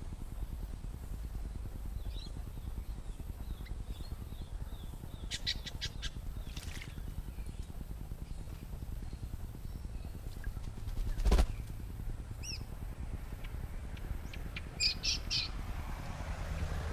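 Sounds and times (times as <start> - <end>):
birds chirping: 0.0 - 15.7
steady low rumble: 0.0 - 16.9.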